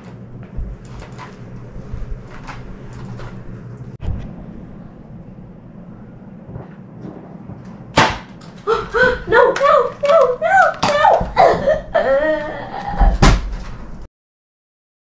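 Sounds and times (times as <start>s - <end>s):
steady low hum: 0.0s - 14.1s.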